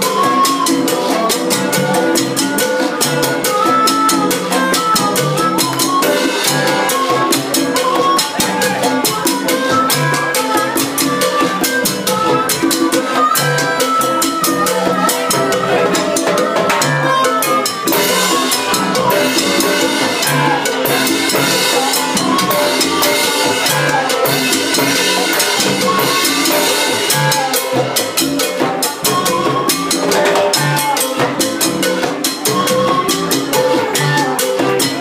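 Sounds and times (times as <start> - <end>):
drum kit and percussion beat: 0.0 - 35.0
live latin band playing: 0.0 - 35.0.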